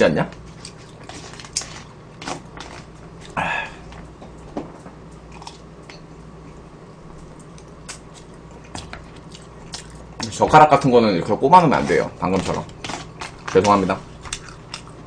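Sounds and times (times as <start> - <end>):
person chewing: 0.4 - 4.1, 5.1 - 10.4, 11.8 - 15.0.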